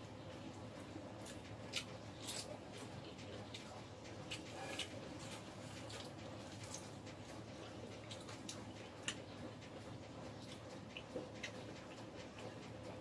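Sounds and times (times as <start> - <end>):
faint low hum: 0.0 - 13.0
person chewing food: 0.4 - 13.0.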